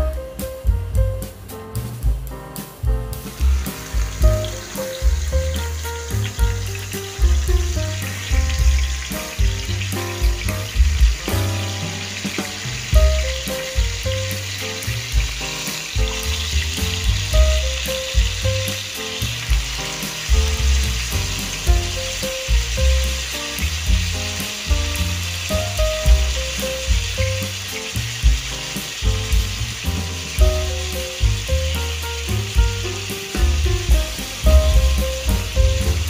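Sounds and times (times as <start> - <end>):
fish sizzling in hot oil: 2.6 - 36.0.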